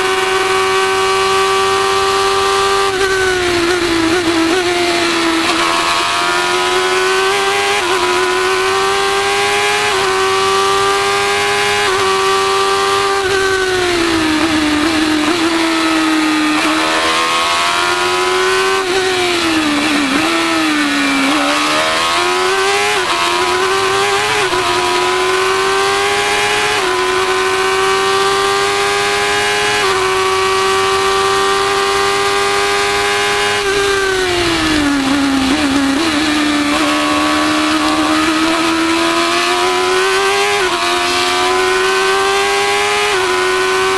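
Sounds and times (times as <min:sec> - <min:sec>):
race car engine at high revs: 0:00.0 - 0:43.9.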